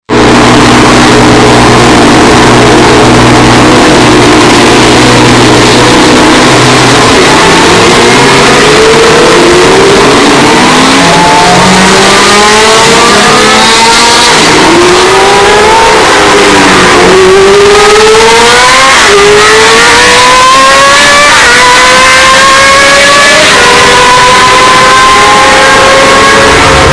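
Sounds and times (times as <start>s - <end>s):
race car engine accelerating: 0.1s - 26.9s.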